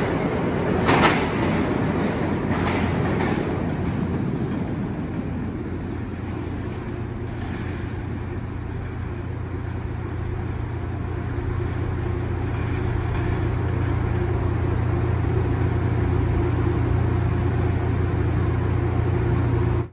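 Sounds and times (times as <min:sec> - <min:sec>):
subway train rumble: 0:00.0 - 0:19.9.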